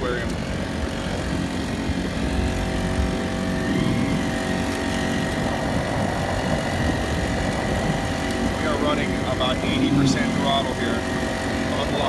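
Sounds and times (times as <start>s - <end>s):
outboard motor running hard: 0.0s - 12.0s.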